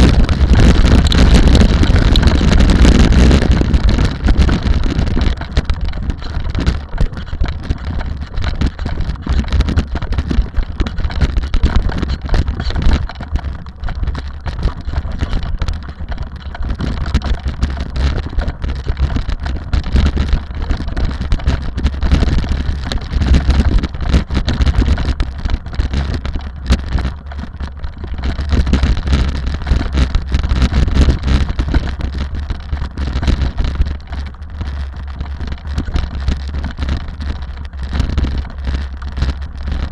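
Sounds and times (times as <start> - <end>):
rally car engine and road noise: 0.0 - 39.9
wind buffeting microphone: 0.0 - 39.9.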